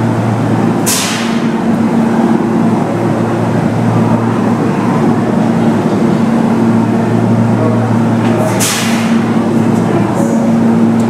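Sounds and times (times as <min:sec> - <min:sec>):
train equipment humming: 0:00.0 - 0:11.0.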